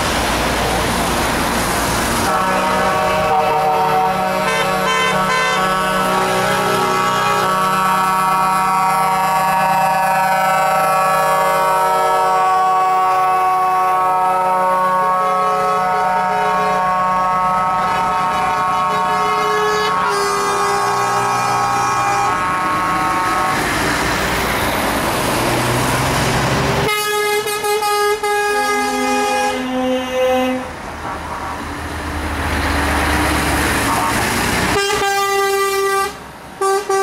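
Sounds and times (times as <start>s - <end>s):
trucks passing: 0.0s - 37.0s
truck air horns blasting: 2.1s - 24.2s, 26.8s - 31.8s, 32.9s - 37.0s.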